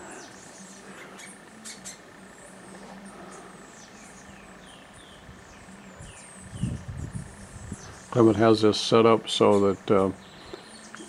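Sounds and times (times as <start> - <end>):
faint high hum: 0.0 - 11.0
small birds chirping: 0.0 - 11.0.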